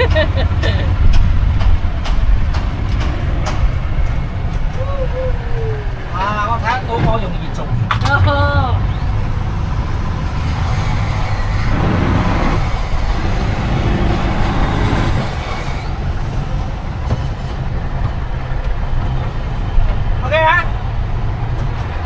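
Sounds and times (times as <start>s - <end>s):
boat engine low rumble: 0.0s - 22.0s.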